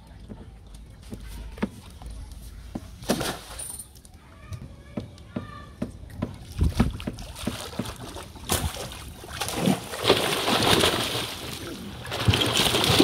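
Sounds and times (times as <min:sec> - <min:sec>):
water splashing and sloshing: 0:00.2 - 0:03.9, 0:06.0 - 0:13.0.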